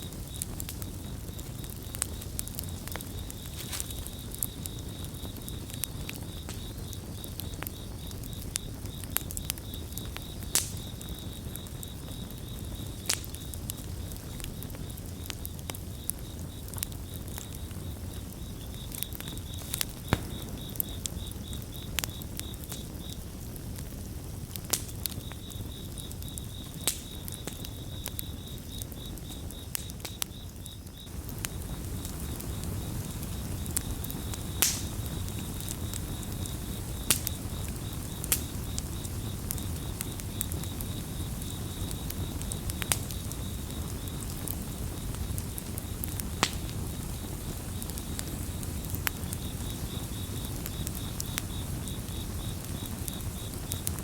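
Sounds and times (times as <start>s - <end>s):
campfire crackling and popping: 0.0s - 54.0s
cricket chirping: 0.0s - 54.0s.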